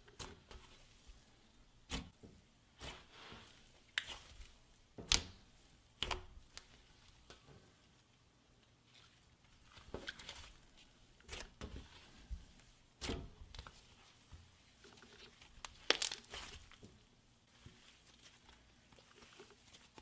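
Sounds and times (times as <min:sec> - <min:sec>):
crinkling and rustling of materials: 0:00.0 - 0:20.0.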